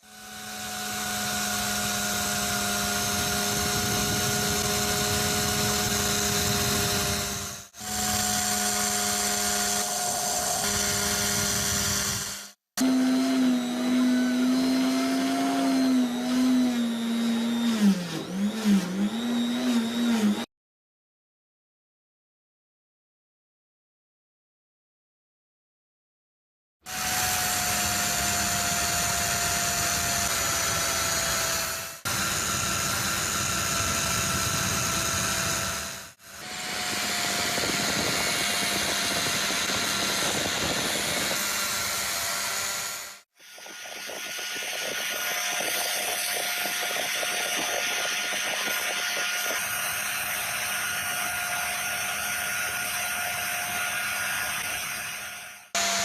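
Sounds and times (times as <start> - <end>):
power tool motor whine: 0.0 - 20.5, 26.9 - 56.0.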